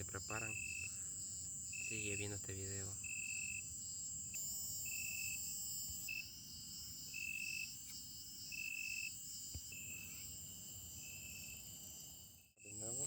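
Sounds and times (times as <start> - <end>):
cricket-like trill: 0.0 - 13.0
high-pitched insect drone: 0.0 - 13.0.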